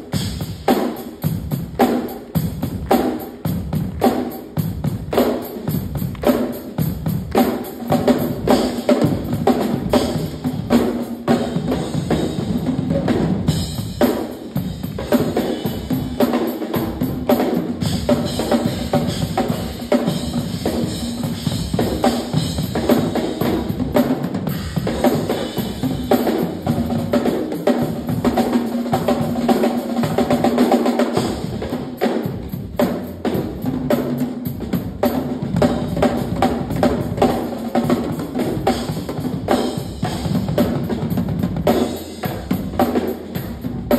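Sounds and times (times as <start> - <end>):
drum kits playing fast: 0.0 - 43.9.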